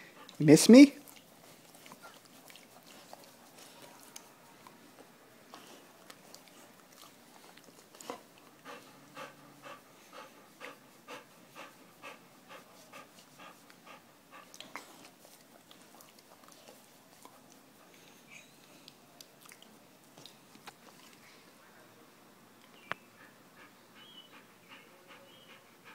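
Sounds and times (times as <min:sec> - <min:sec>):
dog panting: 0:00.0 - 0:19.2, 0:23.1 - 0:25.9.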